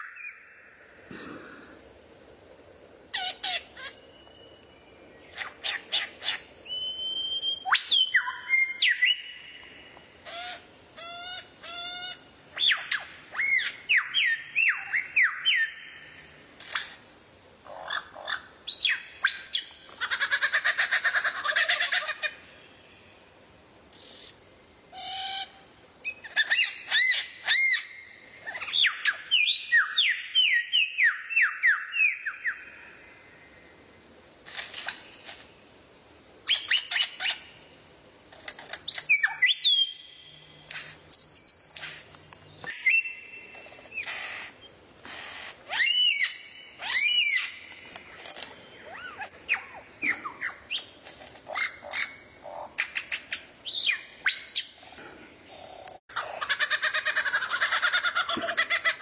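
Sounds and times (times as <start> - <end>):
songbird singing: 0.0 - 44.9, 45.5 - 59.0.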